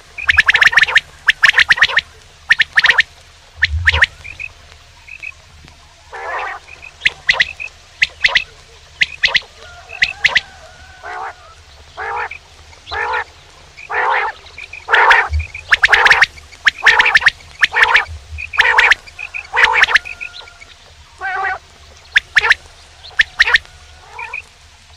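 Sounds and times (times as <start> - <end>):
quail calling: 0.0 - 24.5.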